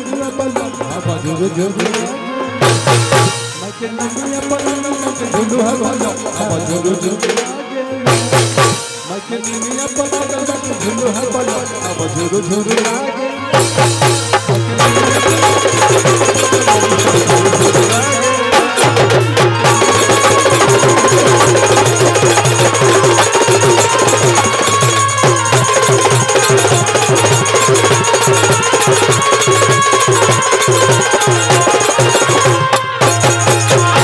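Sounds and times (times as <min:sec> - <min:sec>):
fast drum and percussion beat: 0:00.0 - 0:34.0
live band folk-pop music: 0:00.0 - 0:34.0.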